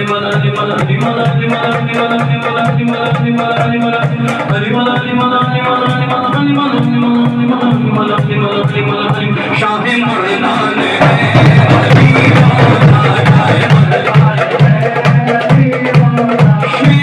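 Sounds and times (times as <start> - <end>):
hand drum beaten with fingers: 0.0 - 17.0
men singing together: 0.0 - 17.0.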